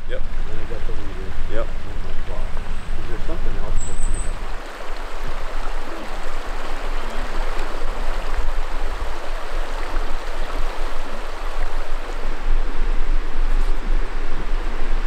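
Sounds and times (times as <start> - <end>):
river flowing over rocks: 0.3 - 15.0.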